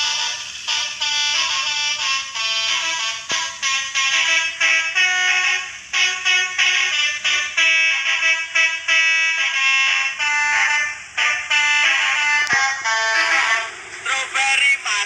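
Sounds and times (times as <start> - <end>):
multi-tone vehicle horn tune: 0.0 - 13.8.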